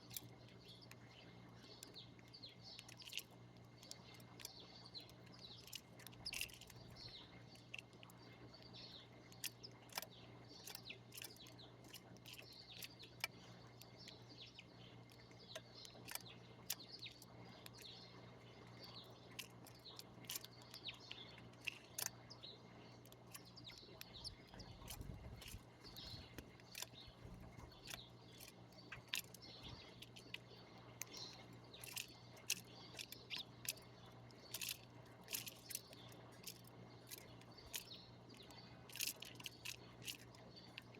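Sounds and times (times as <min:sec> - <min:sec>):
faint low hum: 0:00.0 - 0:40.9
small birds chirping: 0:00.0 - 0:40.9.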